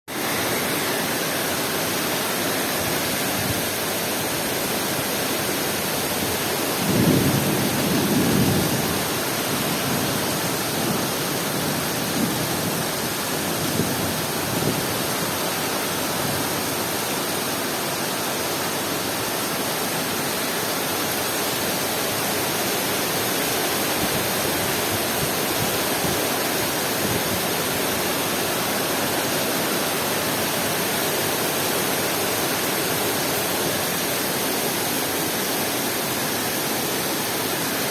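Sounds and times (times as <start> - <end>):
heavy rain pouring: 0.1 - 37.9.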